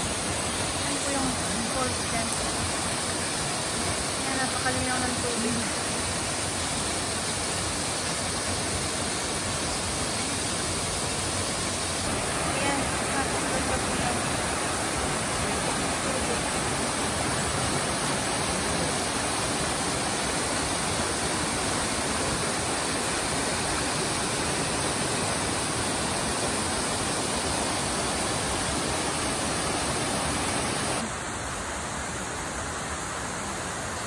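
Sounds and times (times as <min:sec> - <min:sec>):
stream rushing over boulders: 0:00.0 - 0:34.0.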